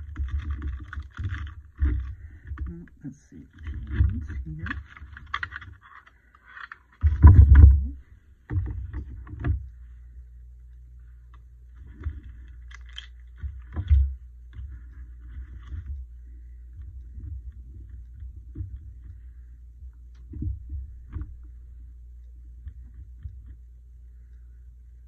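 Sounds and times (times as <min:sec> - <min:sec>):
rustles: 0:00.0 - 0:25.0
steady low hum: 0:00.0 - 0:25.0.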